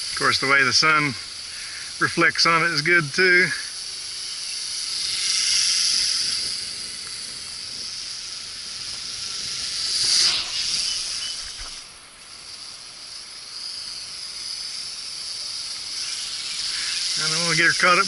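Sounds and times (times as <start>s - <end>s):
toy drone propellers whining: 0.0s - 18.0s.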